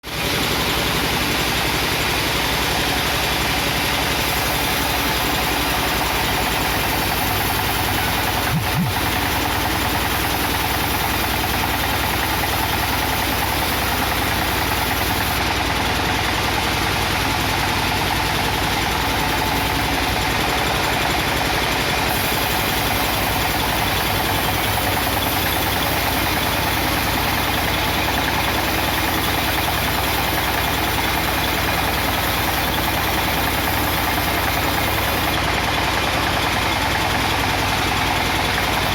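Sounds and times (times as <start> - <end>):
machine engine running: 0.1 - 38.9.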